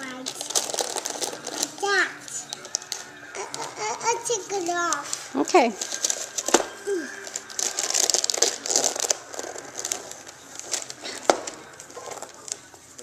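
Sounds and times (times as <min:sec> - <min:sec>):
sharp paper crackle: 0:00.0 - 0:13.0
wrapping paper crinkling: 0:00.0 - 0:13.0.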